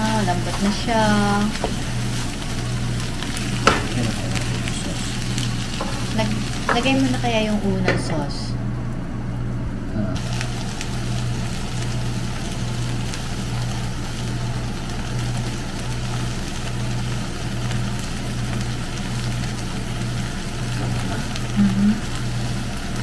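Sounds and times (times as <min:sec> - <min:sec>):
food sizzling in a frying pan: 0:00.0 - 0:08.6, 0:10.2 - 0:23.0
constant low hum: 0:00.0 - 0:23.0.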